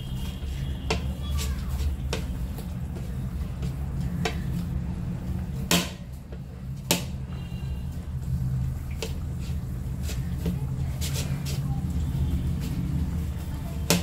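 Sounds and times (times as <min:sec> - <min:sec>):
hands kneading on a plate: 0:00.0 - 0:14.0.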